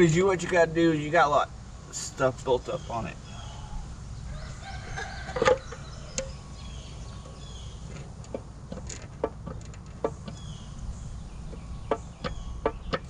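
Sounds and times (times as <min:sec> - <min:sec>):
birds chirping faintly: 0:00.0 - 0:13.0
steady low rumble: 0:00.0 - 0:13.0.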